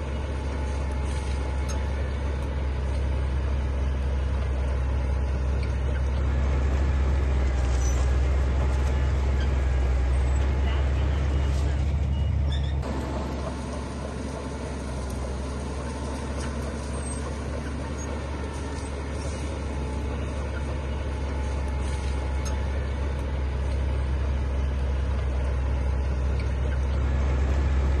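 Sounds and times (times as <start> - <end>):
heavy diesel engine rumbling: 0.0 - 28.0.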